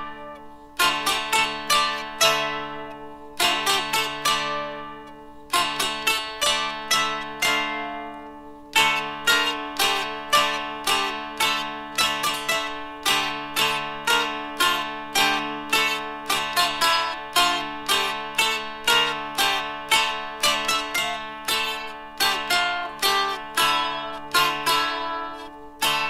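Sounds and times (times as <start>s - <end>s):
dulcimer strummed melody with drone: 0.0s - 26.0s.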